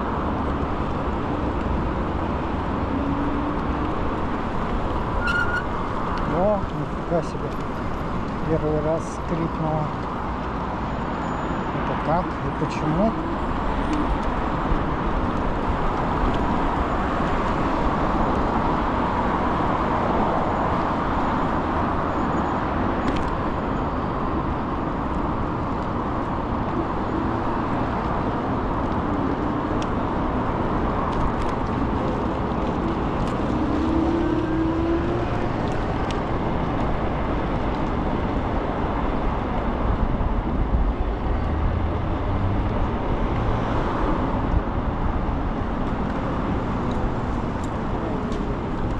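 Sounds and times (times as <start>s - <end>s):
wind and road rumble: 0.0s - 48.9s.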